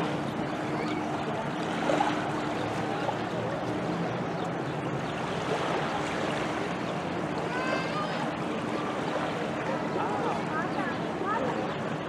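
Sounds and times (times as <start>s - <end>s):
small waves lapping on sand: 0.0s - 12.0s
steady wind: 0.0s - 12.0s.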